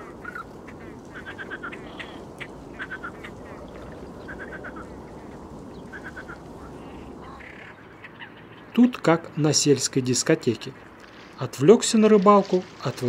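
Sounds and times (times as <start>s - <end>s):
grebes calling: 0.0s - 13.0s
low background noise: 0.0s - 13.0s.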